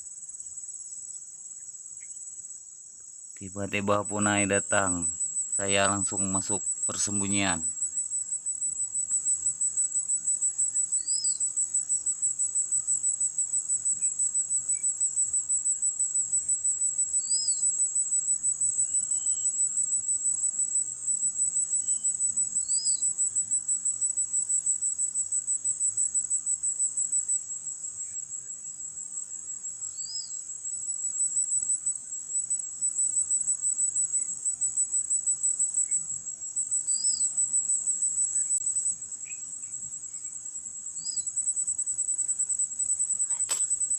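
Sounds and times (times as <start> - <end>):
shrill insect trilling: 3.3 - 43.9.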